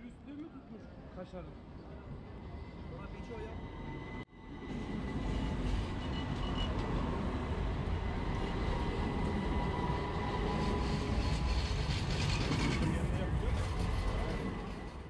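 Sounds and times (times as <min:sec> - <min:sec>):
tram rumbling along rails: 0:00.0 - 0:15.0.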